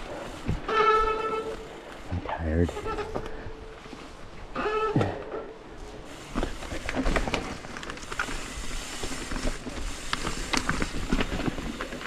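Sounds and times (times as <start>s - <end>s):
bike rattling over bumps: 0.0s - 12.0s
tyres running over dirt: 0.0s - 12.0s.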